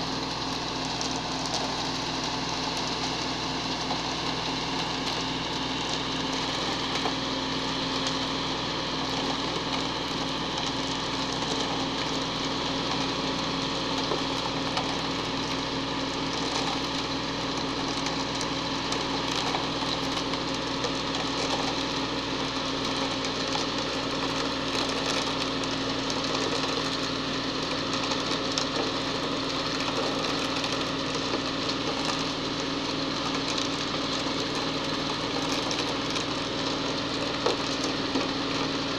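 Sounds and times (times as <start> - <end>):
truck diesel engine running: 0.0 - 38.9
wet concrete pouring down chute: 0.0 - 38.9.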